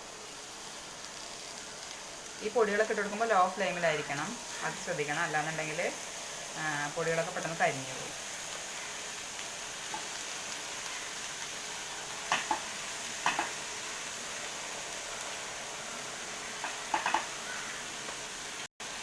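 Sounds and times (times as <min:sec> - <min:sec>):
spices sizzling in a pan: 0:00.0 - 0:19.0.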